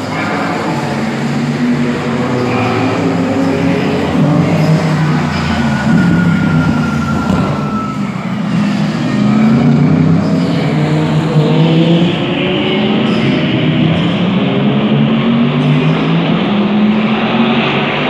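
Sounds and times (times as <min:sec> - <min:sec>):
race car engines accelerating: 0:00.0 - 0:18.0.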